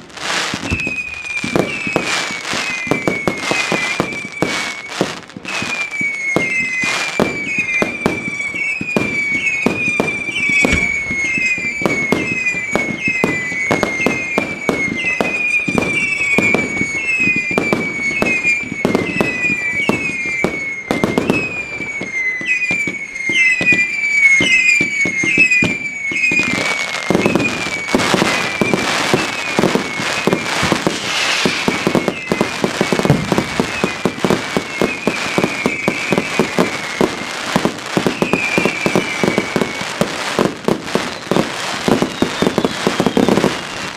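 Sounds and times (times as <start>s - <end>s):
firework batteries firing: 0.0s - 15.0s, 15.6s - 43.9s.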